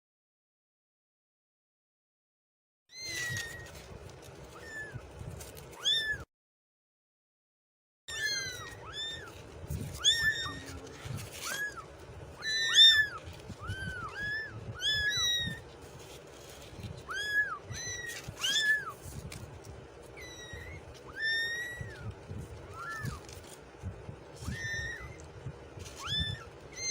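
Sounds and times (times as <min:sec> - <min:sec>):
kittens mewing: 0:02.9 - 0:06.2, 0:08.1 - 0:26.9.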